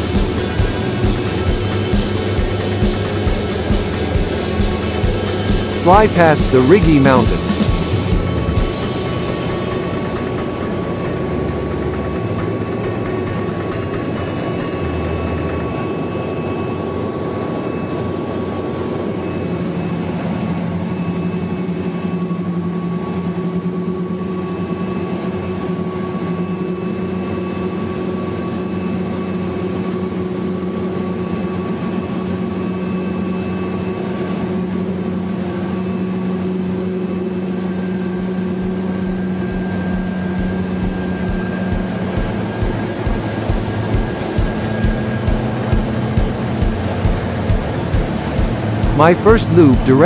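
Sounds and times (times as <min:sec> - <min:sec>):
turboprop engine droning: 0:07.3 - 0:22.4, 0:24.4 - 0:50.0.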